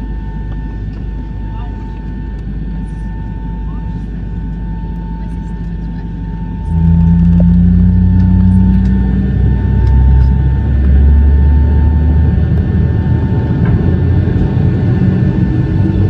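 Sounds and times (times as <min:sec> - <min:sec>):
faint jet engine whine: 0:00.0 - 0:16.0
jet engine rumble from cabin: 0:00.0 - 0:16.0.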